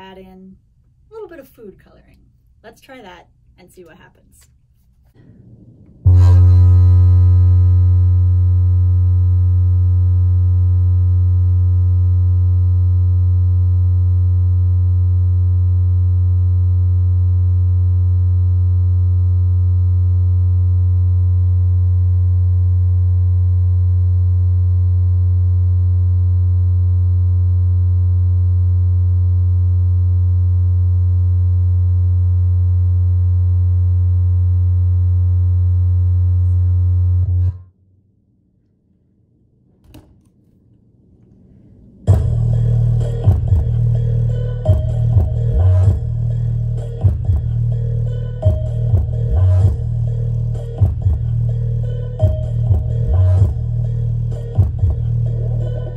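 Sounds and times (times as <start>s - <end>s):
loud low bass tone: 5.2s - 37.6s, 42.1s - 55.9s.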